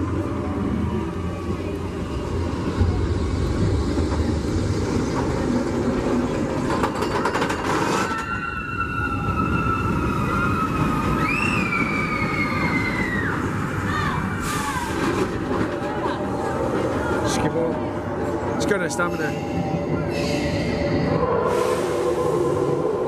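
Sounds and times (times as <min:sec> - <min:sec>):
roller coaster rumble and clatter: 0:00.0 - 0:23.0.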